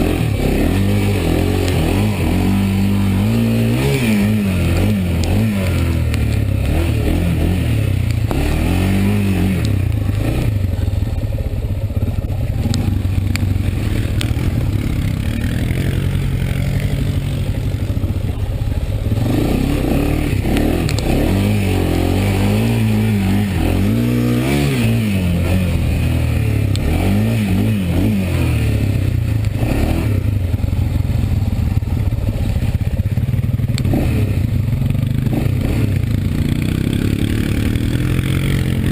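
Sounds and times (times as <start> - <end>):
quad engine revving under load: 0.0 - 38.9.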